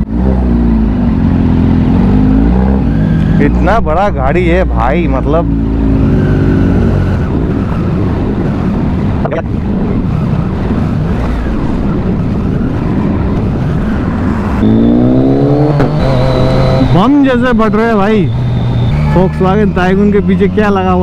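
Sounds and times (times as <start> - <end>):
motorcycle engine: 0.0 - 21.0
road noise: 0.0 - 21.0.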